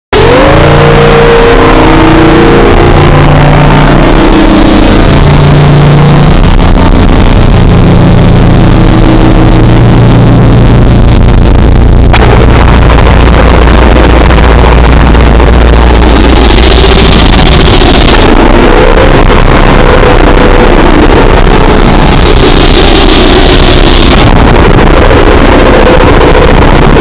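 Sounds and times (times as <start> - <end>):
deep steady drone: 0.0 - 27.0
distorted noise wall: 0.0 - 27.0.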